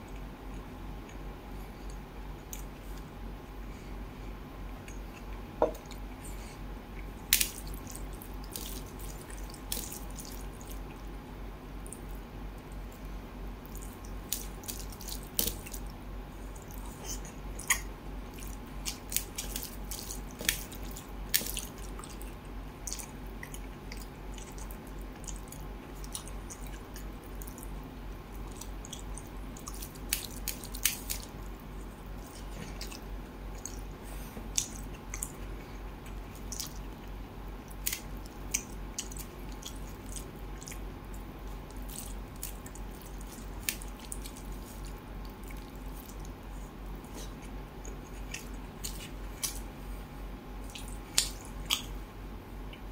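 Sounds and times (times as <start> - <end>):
steady low hum: 0.0 - 52.9
wet eating by hand: 0.0 - 52.9.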